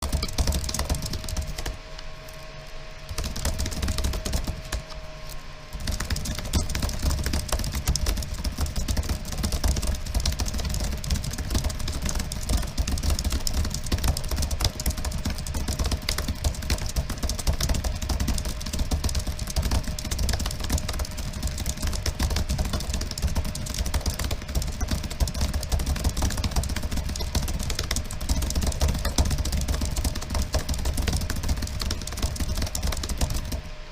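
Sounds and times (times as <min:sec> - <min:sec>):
fast typing on keyboard: 0:00.0 - 0:02.4, 0:03.1 - 0:33.7
steady low hum: 0:00.0 - 0:33.9.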